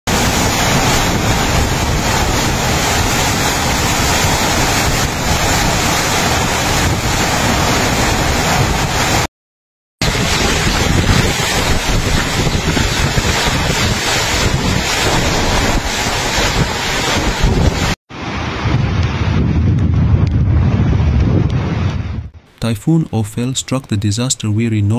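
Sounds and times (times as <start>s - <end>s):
strong wind and driving rain: 0.1s - 9.3s, 10.0s - 24.3s
wind gusts buffeting microphone: 0.1s - 9.3s, 10.0s - 22.4s.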